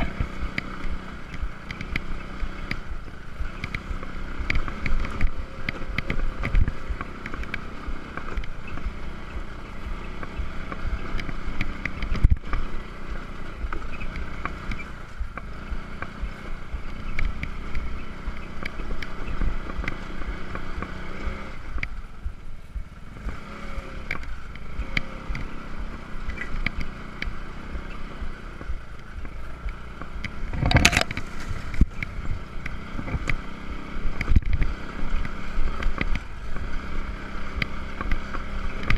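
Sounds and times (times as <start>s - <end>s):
bike rattling: 0.0s - 38.9s
scooter engine running: 0.0s - 38.9s.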